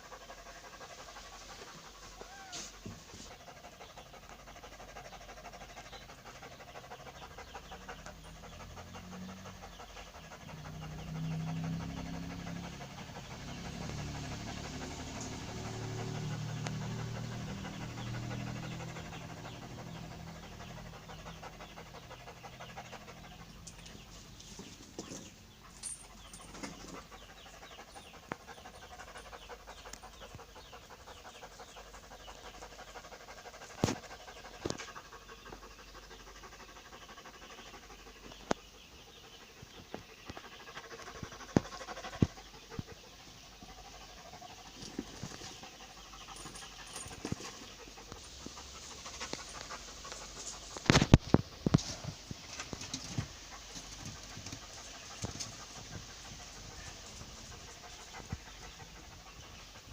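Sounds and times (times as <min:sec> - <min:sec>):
pet animal rapid breathing: 0:00.0 - 0:59.9.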